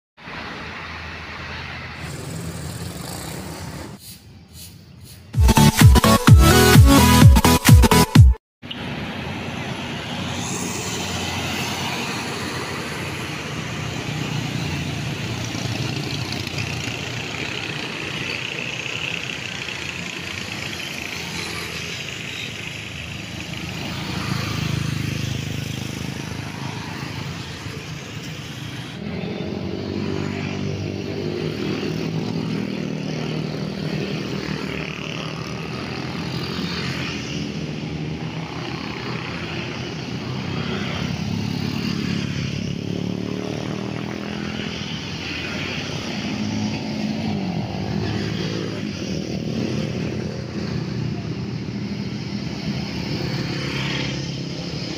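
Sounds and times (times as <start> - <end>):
motorcycles and cars passing: 0.2 - 5.4, 8.6 - 54.9.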